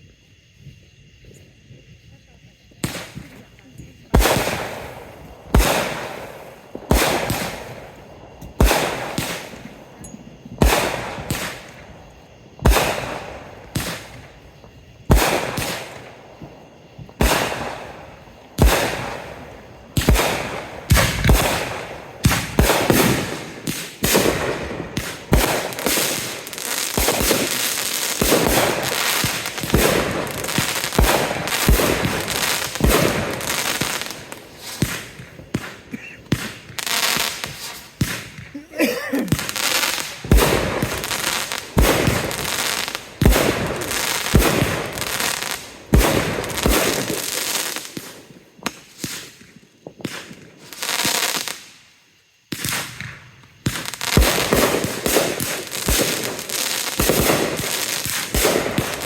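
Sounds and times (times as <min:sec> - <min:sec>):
firework crackling: 0:02.2 - 0:51.8, 0:52.5 - 0:59.0
firework bangs: 0:02.7 - 0:51.7, 0:52.5 - 0:59.0.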